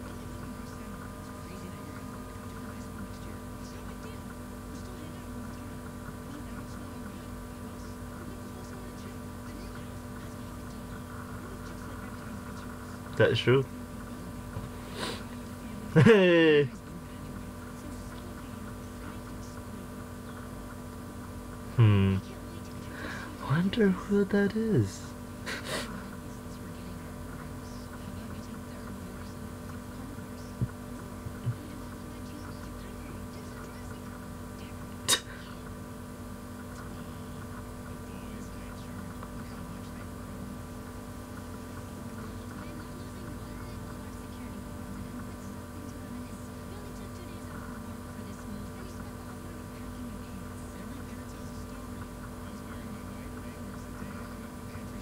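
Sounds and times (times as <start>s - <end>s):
electrical hum with tones: 0.0s - 55.0s
faint indistinct speech: 0.0s - 55.0s.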